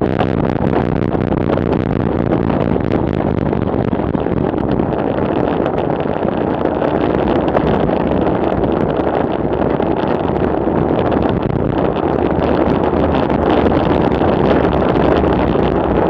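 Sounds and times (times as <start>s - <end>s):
bicycle tyre noise on road: 0.0s - 16.0s
wind rushing over microphone: 0.0s - 16.0s.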